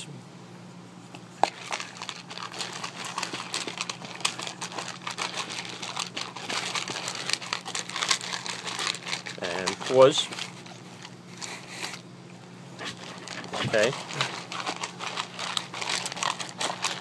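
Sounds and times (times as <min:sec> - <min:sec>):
dry kibble clattering in plastic bowl: 0:01.4 - 0:12.0, 0:12.8 - 0:17.0.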